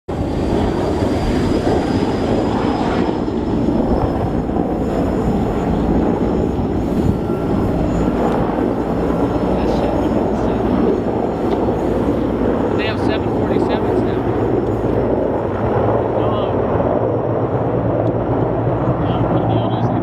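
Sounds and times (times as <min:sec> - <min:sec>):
helicopter rotor and turbine rumble: 0:00.1 - 0:20.0.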